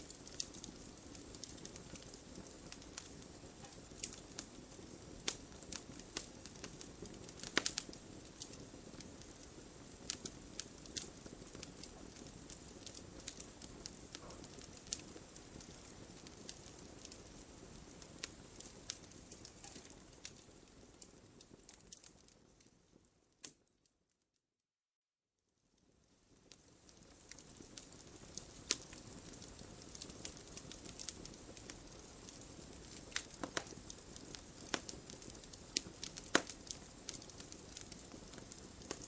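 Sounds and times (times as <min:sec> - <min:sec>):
wood fire crackling: 0:00.0 - 0:23.8, 0:25.8 - 0:39.0.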